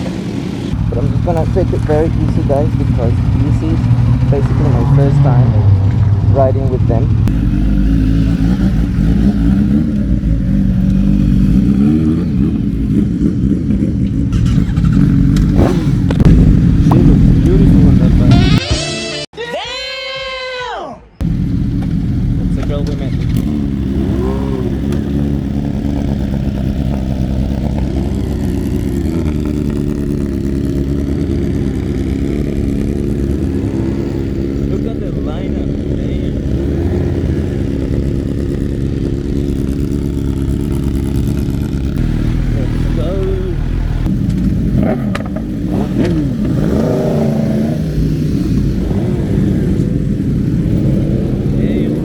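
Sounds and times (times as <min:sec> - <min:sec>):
motorcycle engine idling: 0:00.6 - 0:18.6, 0:21.2 - 0:52.0.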